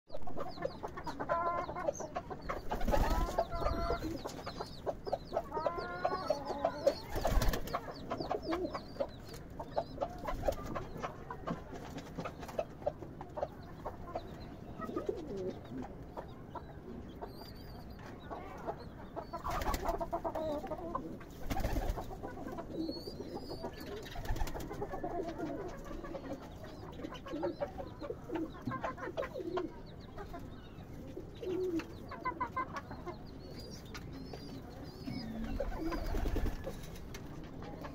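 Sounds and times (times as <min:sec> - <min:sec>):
pigeons cooing: 0:00.4 - 0:11.5, 0:13.4 - 0:17.5, 0:19.2 - 0:29.8, 0:31.0 - 0:37.9.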